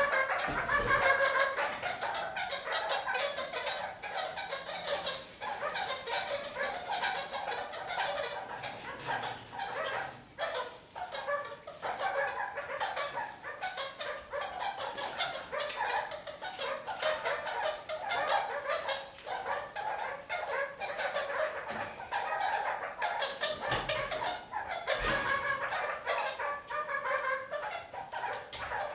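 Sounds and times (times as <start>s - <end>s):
parakeets chattering and calling: 0.0s - 28.9s.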